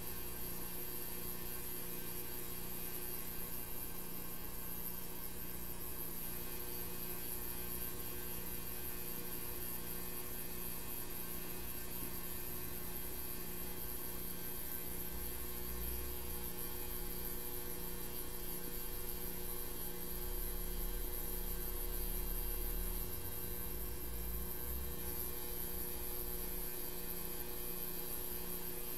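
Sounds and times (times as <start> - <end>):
electrical mains hum: 0.0 - 28.9.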